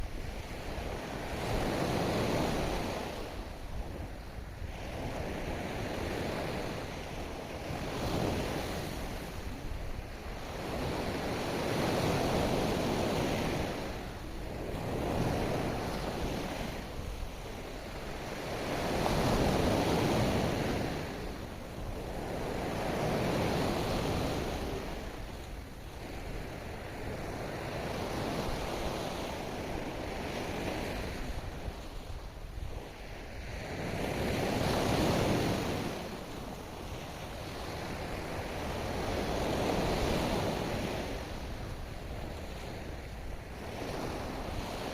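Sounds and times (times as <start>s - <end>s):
ocean waves breaking on shore: 0.0s - 44.9s.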